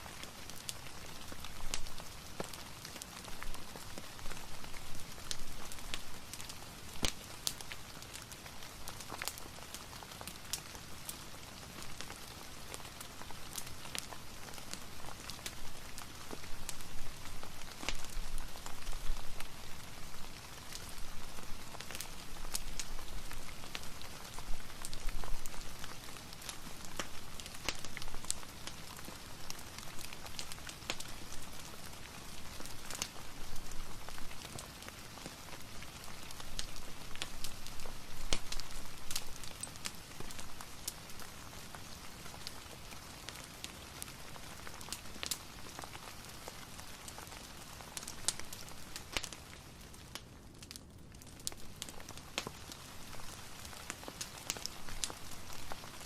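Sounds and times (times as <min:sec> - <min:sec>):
fireplace crackling: 0:00.0 - 0:56.0
rain hiss and patter: 0:00.0 - 0:56.0.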